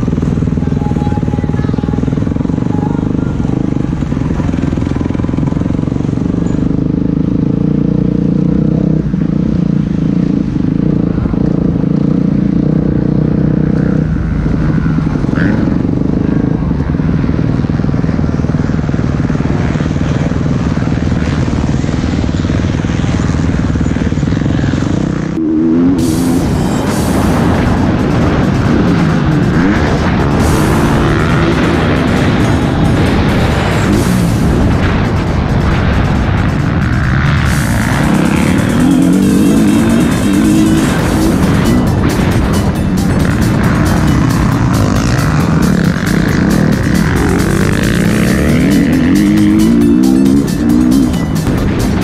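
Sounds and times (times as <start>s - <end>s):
vehicle engine droning: 0.0s - 52.0s.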